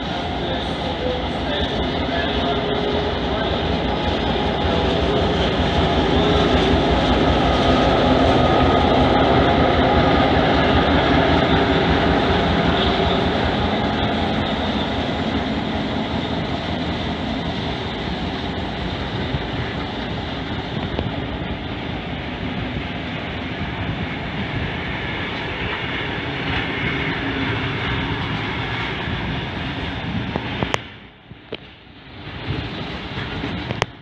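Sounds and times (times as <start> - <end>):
locomotive engine rumble: 0.0 - 34.0
train wheel and rail noise: 0.0 - 34.0.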